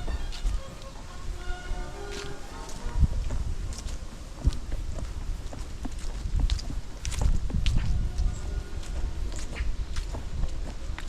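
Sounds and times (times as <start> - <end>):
footsteps on forest path: 0.0 - 11.0.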